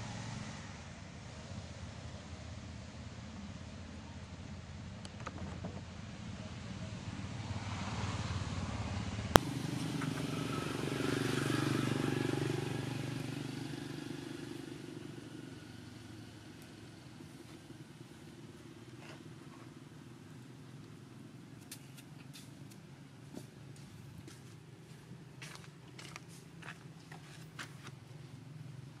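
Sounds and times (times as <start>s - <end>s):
vehicle engine passing by: 0.0s - 29.0s.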